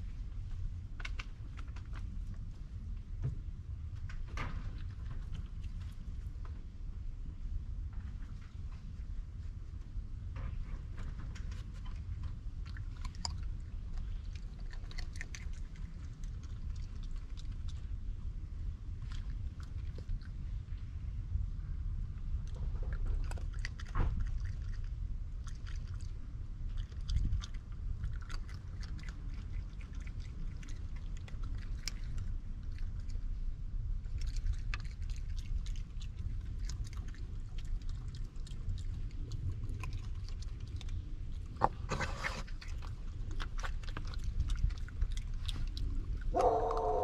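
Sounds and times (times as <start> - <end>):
low steady rumble: 0.0 - 47.0
raccoon chewing peanuts: 0.0 - 47.0.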